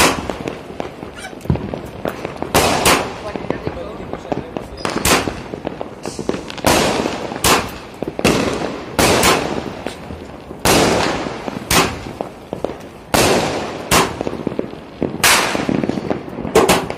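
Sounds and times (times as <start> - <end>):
firework shots banging: 0.0 - 16.9.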